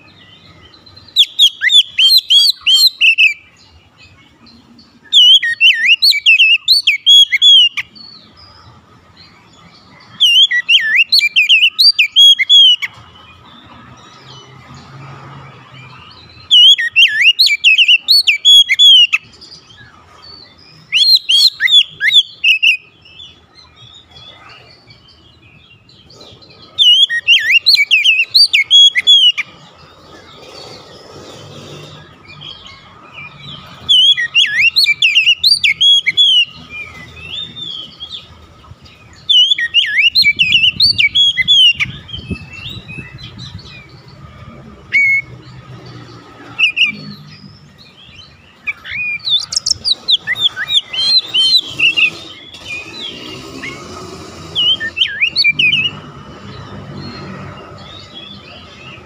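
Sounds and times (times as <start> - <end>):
bird singing whistles and chatter: 0.0 - 8.6, 9.2 - 14.8, 15.8 - 38.3, 38.9 - 44.2, 44.8 - 59.0.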